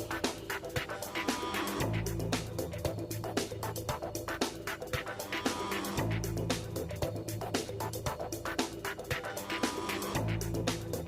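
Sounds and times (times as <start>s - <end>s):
electronic music with percussive beat: 0.0s - 11.0s.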